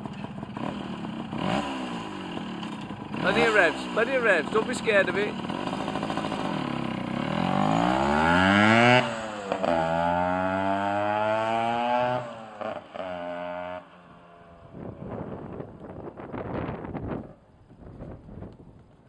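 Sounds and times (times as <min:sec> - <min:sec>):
moped engine revving: 0:00.0 - 0:17.4.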